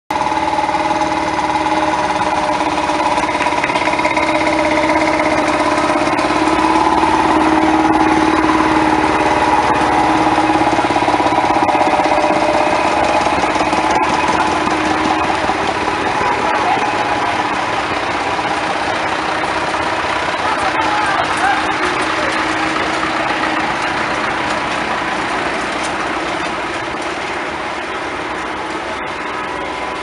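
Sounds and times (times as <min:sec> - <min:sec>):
tractor engines running: 0:00.1 - 0:30.0.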